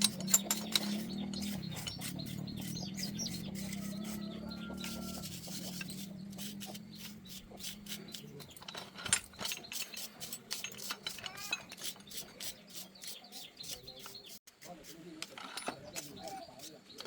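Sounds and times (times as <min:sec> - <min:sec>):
metal tools clinking and scraping: 0:00.0 - 0:17.0.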